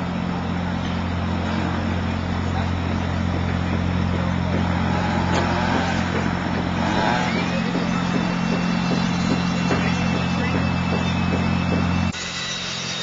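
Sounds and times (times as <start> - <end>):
engine droning: 0.0 - 13.0
outdoor bustle: 0.0 - 13.0.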